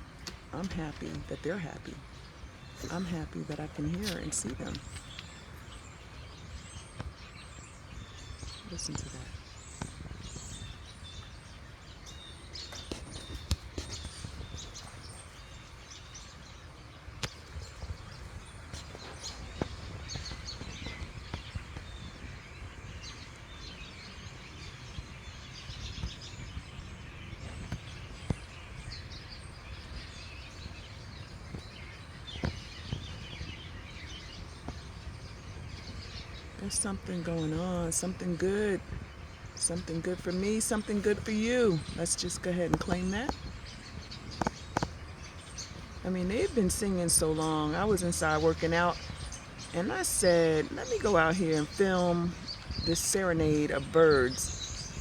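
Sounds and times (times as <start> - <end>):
low outdoor background noise: 0.0 - 55.0
small birds chirping: 0.0 - 55.0.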